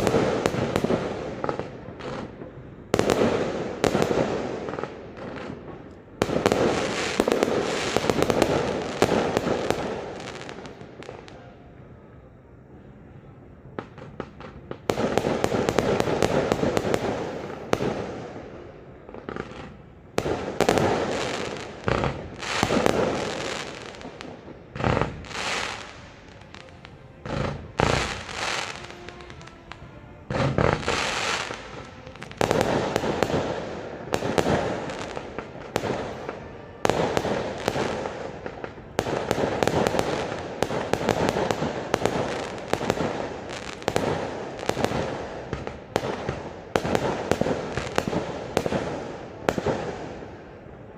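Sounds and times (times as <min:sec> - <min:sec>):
fireworks bangs and crackling: 0:00.0 - 0:11.8, 0:13.4 - 0:50.9.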